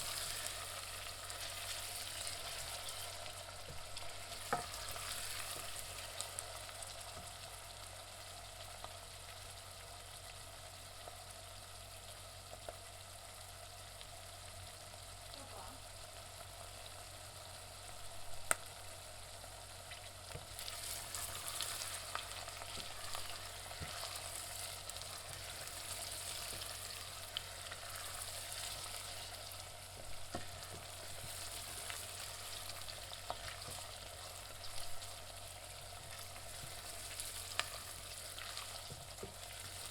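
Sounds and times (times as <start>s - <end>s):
onions sizzling in a pan: 0.0s - 39.9s.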